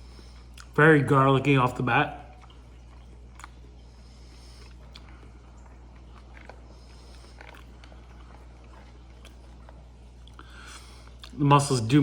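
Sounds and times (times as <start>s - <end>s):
person chewing: 0.0s - 0.8s, 2.2s - 11.4s.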